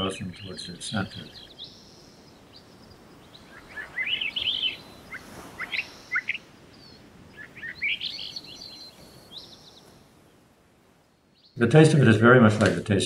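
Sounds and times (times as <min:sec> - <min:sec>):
faint steady hiss: 0:00.0 - 0:13.0
small birds chirping: 0:00.0 - 0:13.0.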